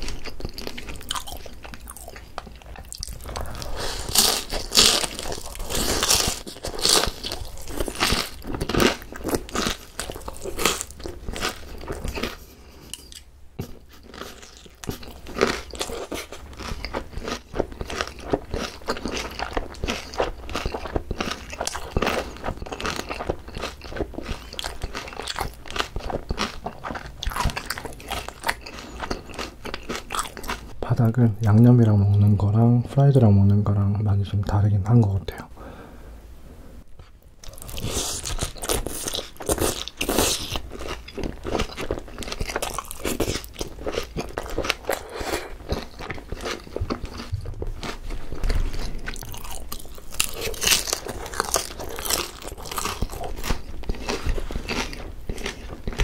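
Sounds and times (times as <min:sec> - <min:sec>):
crunchy chewing of fried chicken: 0:00.0 - 0:30.8, 0:37.0 - 0:56.0.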